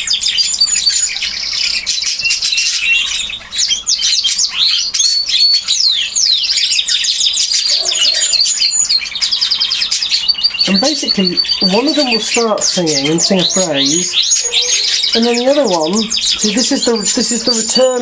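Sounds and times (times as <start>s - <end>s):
canaries singing: 0.0s - 18.0s.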